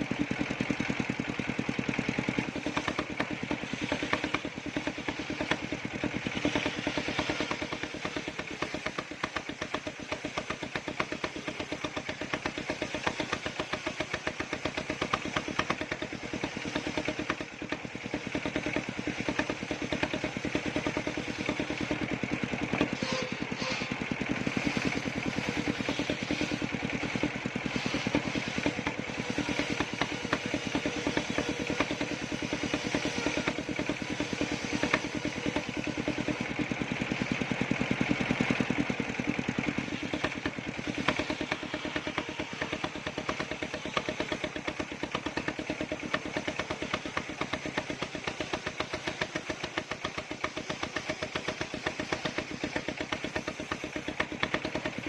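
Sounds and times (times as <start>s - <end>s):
engine running circular saw: 0.0s - 55.0s.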